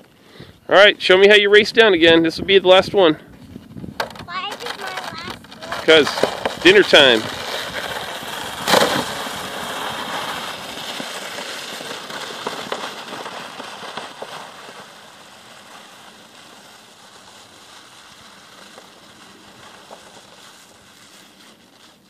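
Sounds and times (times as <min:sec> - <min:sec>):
sleds sliding over crusty snow: 0:00.0 - 0:22.0.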